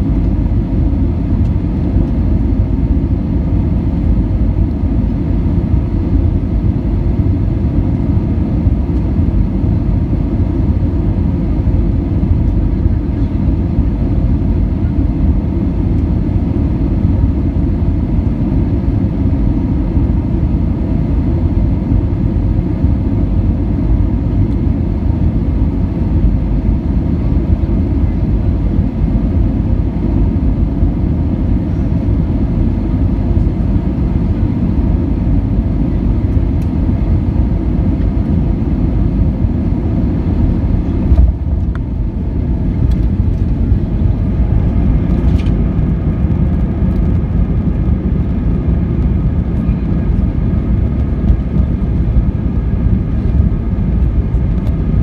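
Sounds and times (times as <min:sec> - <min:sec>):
aircraft engine and airflow rumble: 0:00.0 - 0:55.0
steady whining tone: 0:00.0 - 0:55.0.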